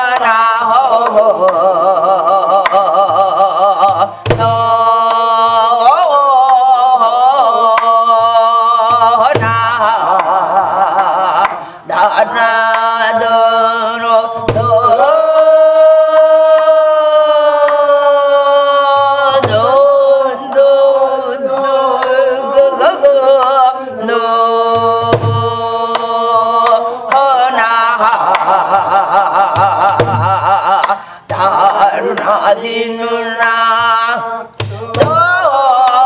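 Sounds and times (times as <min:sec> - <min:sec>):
person singing long wavering notes: 0:00.0 - 0:36.0.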